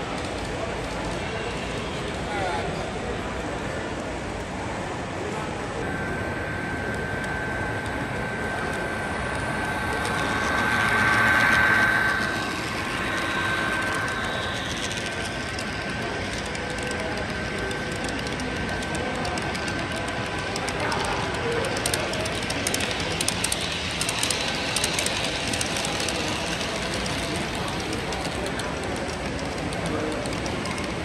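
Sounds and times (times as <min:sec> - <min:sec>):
model train running: 0:00.0 - 0:04.6, 0:05.4 - 0:31.0.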